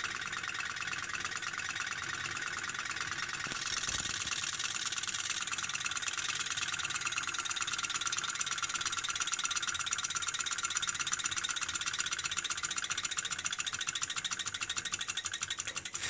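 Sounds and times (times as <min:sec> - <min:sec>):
stirling engine mechanical clicks: 0:00.0 - 0:16.0.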